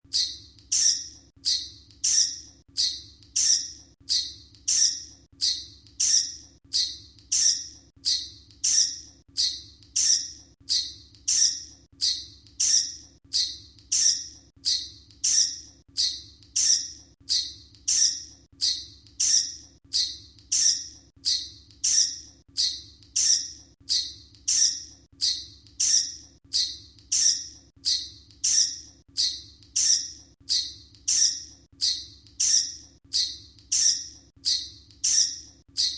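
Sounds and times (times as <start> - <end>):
bat squeaks: 0.1 - 35.9.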